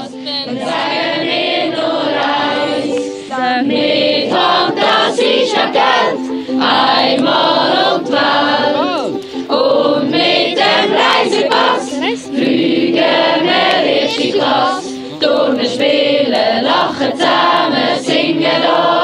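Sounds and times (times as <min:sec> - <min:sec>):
young voices singing together: 0:00.0 - 0:19.0.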